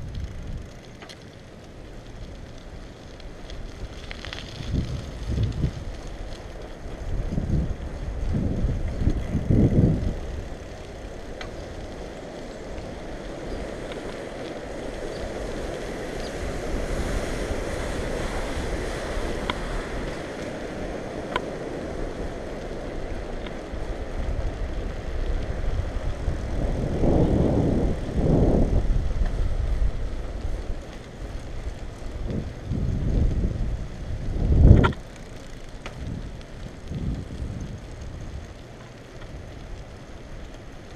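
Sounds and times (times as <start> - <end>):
faint ticks: 0.0 - 16.5, 19.0 - 26.6, 29.2 - 40.9
tyre and road noise: 0.0 - 40.9
wind buffeting microphone: 3.6 - 40.5.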